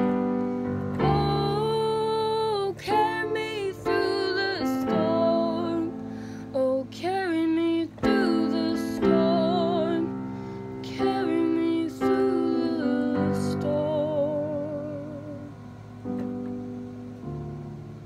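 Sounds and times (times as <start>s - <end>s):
digital piano chords: 0.0s - 18.0s
woman singing with vibrato: 1.0s - 15.7s.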